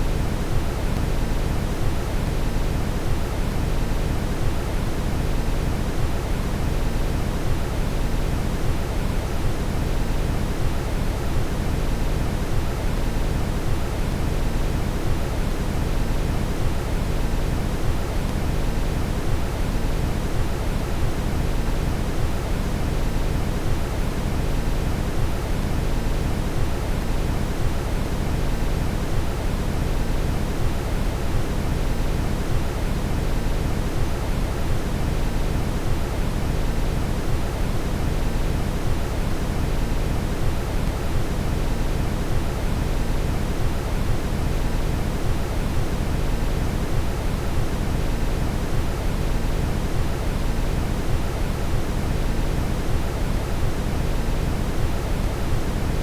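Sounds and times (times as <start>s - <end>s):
brown noise hiss: 0.0s - 56.0s.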